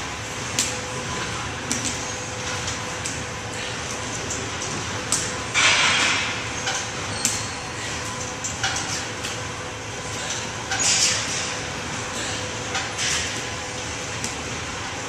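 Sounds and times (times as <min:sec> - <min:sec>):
ventilation hum: 0:00.0 - 0:15.0.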